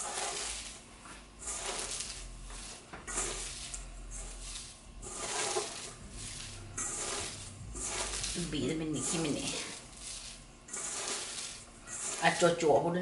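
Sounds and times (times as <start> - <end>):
wet rustling and squelching: 1.4 - 12.6.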